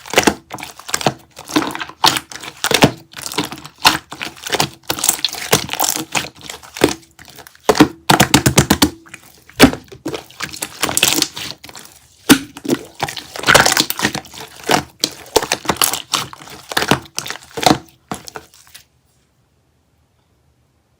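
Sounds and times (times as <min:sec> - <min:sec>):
crackling crinkling handling: 0:00.0 - 0:18.9.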